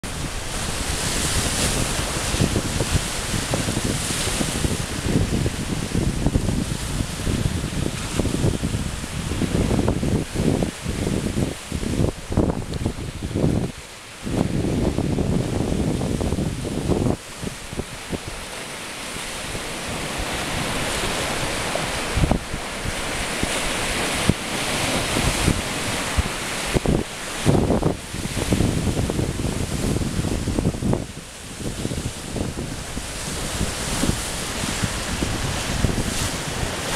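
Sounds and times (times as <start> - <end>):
waves breaking and washing: 0.0 - 36.9
wind buffeting microphone: 0.0 - 36.9.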